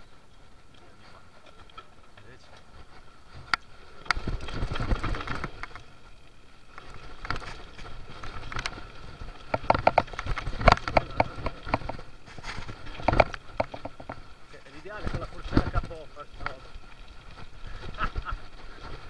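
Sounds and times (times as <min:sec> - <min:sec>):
bike tyres over rocks and roots: 0:00.0 - 0:19.0
bike frame rattling and clattering: 0:00.9 - 0:19.0.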